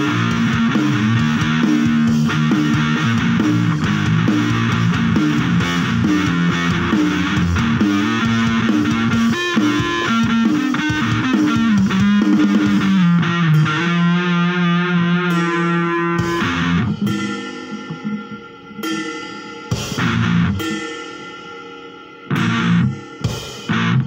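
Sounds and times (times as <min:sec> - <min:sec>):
electric guitar rock riff: 0:00.0 - 0:24.0.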